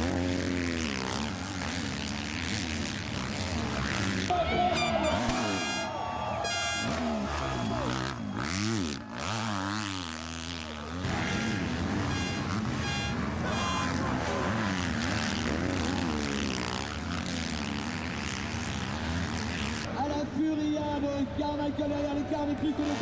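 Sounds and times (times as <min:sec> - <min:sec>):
motocross bike engines revving: 0:00.0 - 0:20.2, 0:21.6 - 0:23.0.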